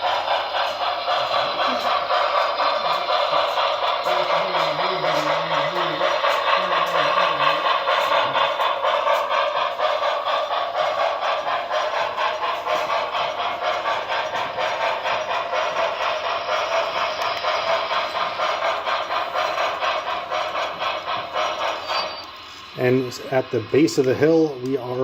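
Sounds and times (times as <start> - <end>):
model steam locomotive chuffs: 0.0 - 25.0.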